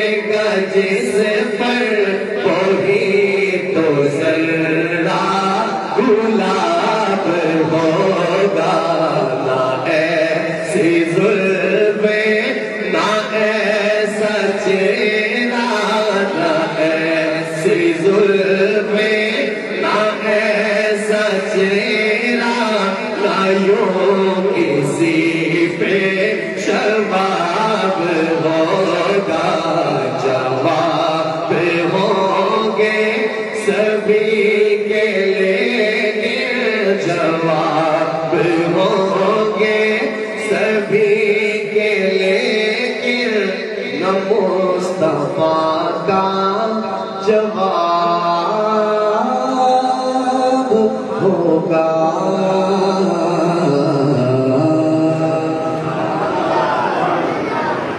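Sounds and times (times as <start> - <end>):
man chanting devotional poem: 0.0 - 56.2.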